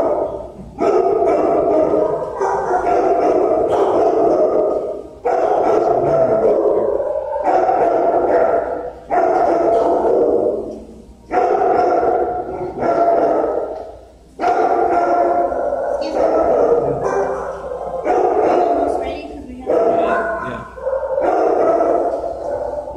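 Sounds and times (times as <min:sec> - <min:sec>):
dogs barking with echo: 0:00.0 - 0:22.9.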